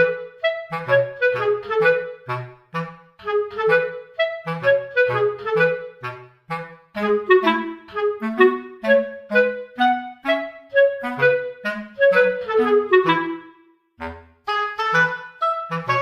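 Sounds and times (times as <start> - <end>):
bouncy instrumental music: 0.0 - 16.0.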